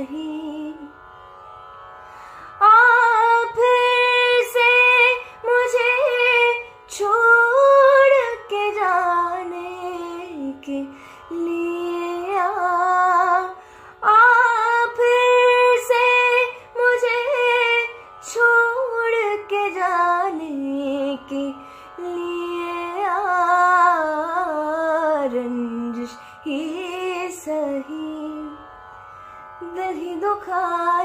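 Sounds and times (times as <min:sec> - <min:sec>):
woman singing: 0:00.0 - 0:01.0, 0:02.6 - 0:28.7, 0:29.6 - 0:31.0.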